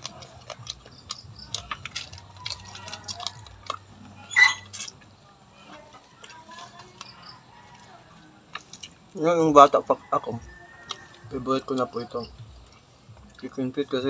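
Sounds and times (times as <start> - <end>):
wet chewing clicks and smacks: 0.0 - 9.2, 10.2 - 14.0.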